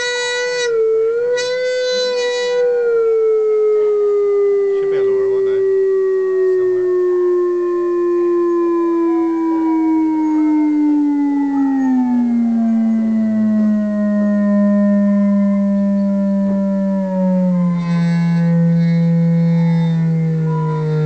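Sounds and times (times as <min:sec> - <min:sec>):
tone gliding down in pitch: 0:00.0 - 0:21.0.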